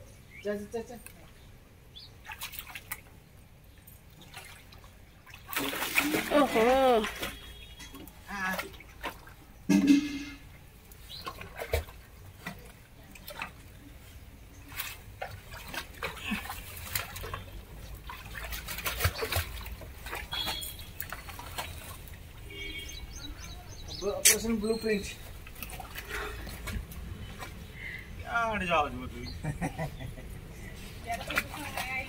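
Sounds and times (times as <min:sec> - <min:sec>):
water trickling and splashing: 0:00.3 - 0:32.0.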